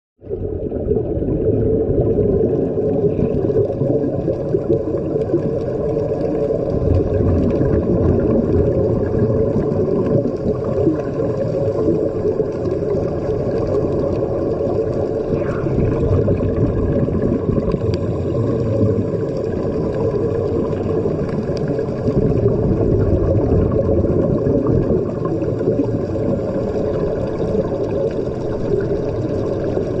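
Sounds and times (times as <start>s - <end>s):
underwater rush of air bubbles: 0.2s - 30.0s.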